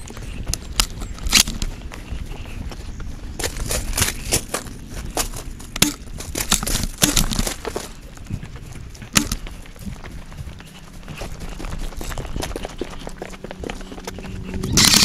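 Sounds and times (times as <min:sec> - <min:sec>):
camera and clothing rustling: 0:00.0 - 0:15.0
footsteps on gravel: 0:00.0 - 0:15.0.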